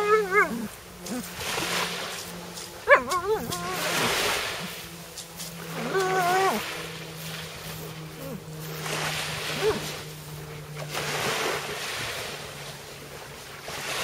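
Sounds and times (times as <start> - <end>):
low steady hum: 0.0 - 14.0
waves and surf rushing: 0.0 - 14.0.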